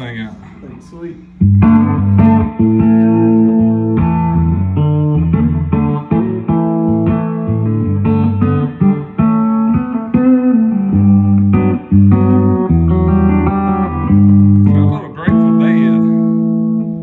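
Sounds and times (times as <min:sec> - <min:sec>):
electric guitar through amp: 0:01.2 - 0:17.0.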